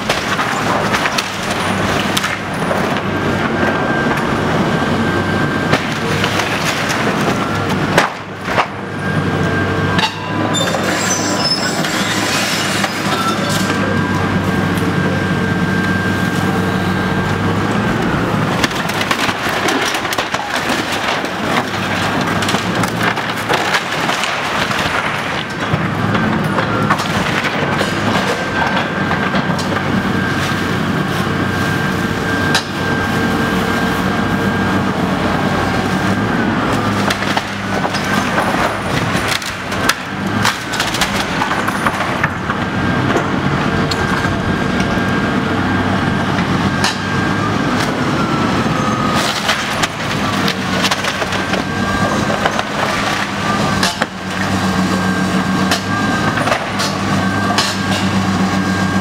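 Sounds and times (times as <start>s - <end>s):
wood and metal siding crashing: 0.0s - 9.2s, 9.9s - 13.9s, 17.6s - 31.2s, 34.2s - 45.9s, 46.5s - 59.0s
excavator engine whining: 0.0s - 59.0s.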